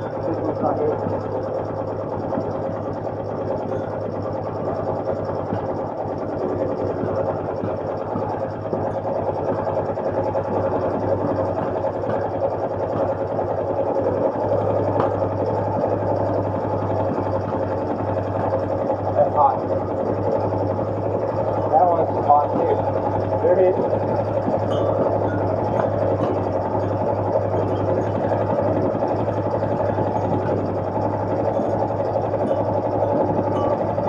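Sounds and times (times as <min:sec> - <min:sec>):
motorcycle engine idling: 0:00.0 - 0:34.0.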